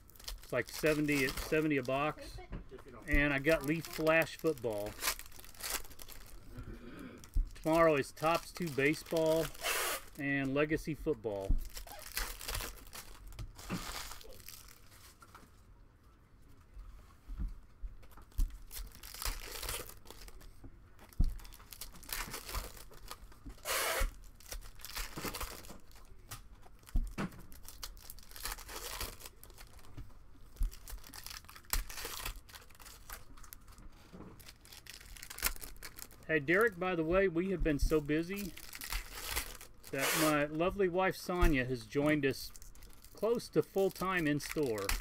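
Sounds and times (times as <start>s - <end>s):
wrappers tearing and crinkling: 0.0s - 2.2s, 3.1s - 6.6s, 7.2s - 10.3s, 11.4s - 15.3s, 18.4s - 40.7s, 41.5s - 45.0s.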